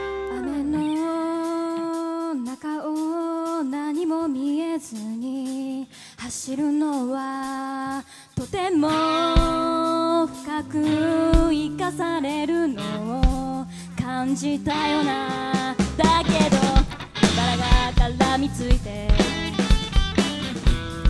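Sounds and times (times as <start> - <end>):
woman singing unaccompanied: 0.0 - 19.7.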